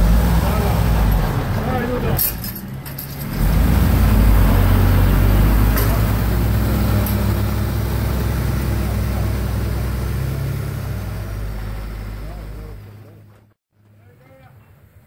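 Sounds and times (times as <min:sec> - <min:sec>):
diesel truck engine droning: 0:00.0 - 0:13.6.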